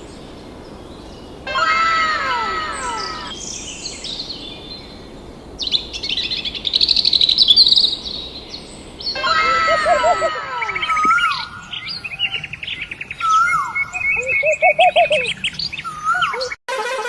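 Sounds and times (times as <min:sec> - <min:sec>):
birds singing and chirping: 0:00.0 - 0:16.6.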